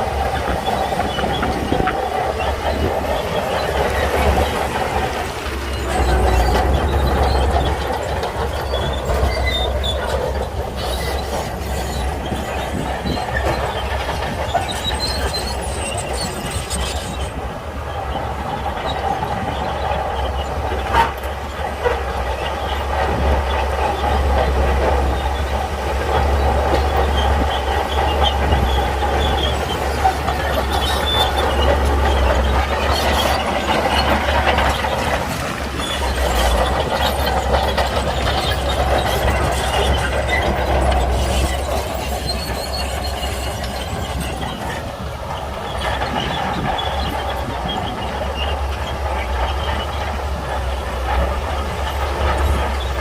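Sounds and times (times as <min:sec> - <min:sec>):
diesel engine droning: 0:00.0 - 0:53.0
steel tracks clattering and squealing: 0:00.0 - 0:53.0.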